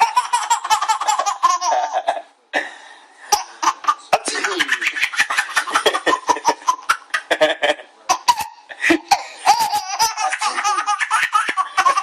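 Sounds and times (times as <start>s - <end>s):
baby giggling: 0.0s - 2.2s, 3.3s - 12.0s.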